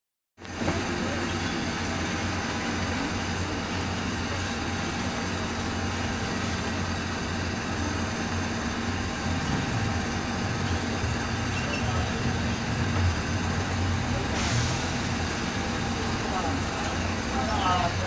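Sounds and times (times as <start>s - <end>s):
bus engine running: 0.4s - 18.0s
bus rear differential drone: 0.4s - 18.0s
road noise: 0.4s - 18.0s.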